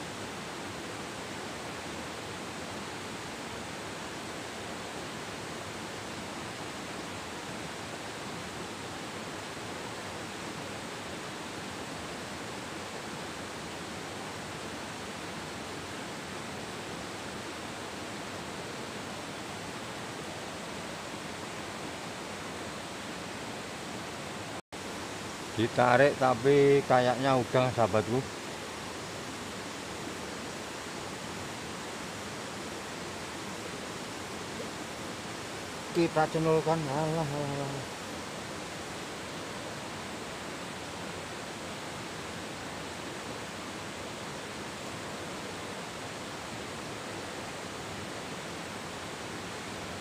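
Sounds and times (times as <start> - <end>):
river rushing over boulders: 0.0 - 50.0.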